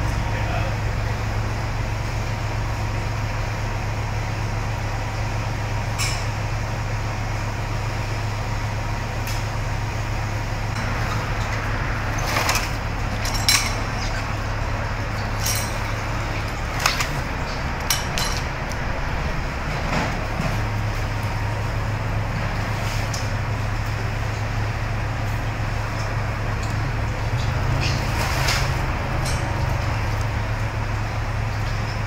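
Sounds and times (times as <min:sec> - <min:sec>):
equipment droning: 0:00.0 - 0:32.0.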